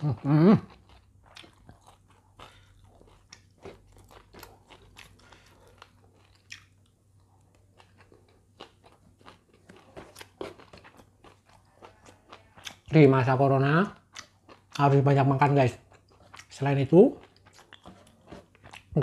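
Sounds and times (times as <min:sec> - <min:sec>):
chewing with crunches and lip smacks: 0:00.0 - 0:19.0
faint low hum: 0:00.0 - 0:19.0.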